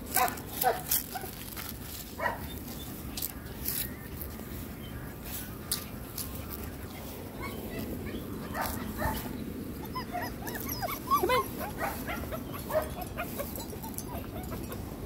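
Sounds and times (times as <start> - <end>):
puppies yipping and whining: 0.1 - 4.2, 6.3 - 15.0.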